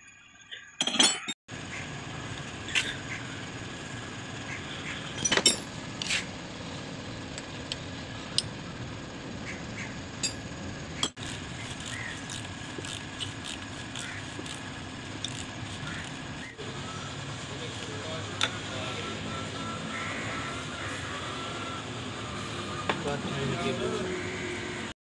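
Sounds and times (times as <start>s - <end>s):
steady background noise: 1.5s - 24.9s.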